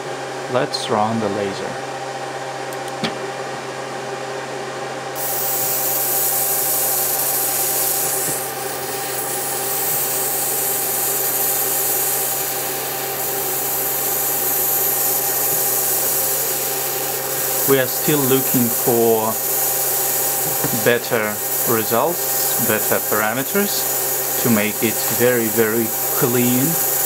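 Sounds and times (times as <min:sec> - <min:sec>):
machine hum with tones: 0:00.0 - 0:27.0
hiss: 0:05.2 - 0:27.0.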